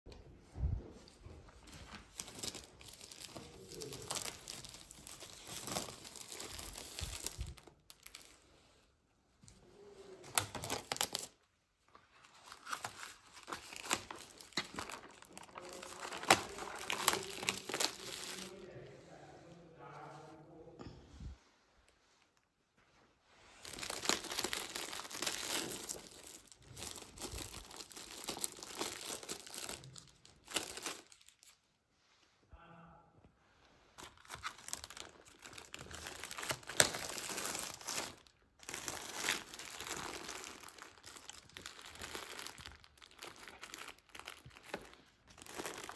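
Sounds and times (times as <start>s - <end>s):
plastic wrapping crinkling: 1.0s - 8.6s, 9.5s - 18.8s, 23.5s - 31.6s, 34.0s - 45.9s.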